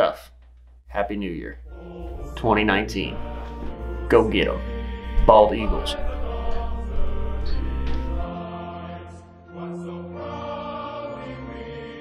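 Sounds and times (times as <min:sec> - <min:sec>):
music with choir-like voices: 0:01.2 - 0:12.0.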